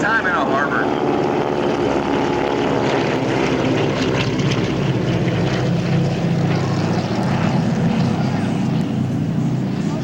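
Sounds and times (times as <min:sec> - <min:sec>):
propeller planes flying past: 0:00.0 - 0:10.0.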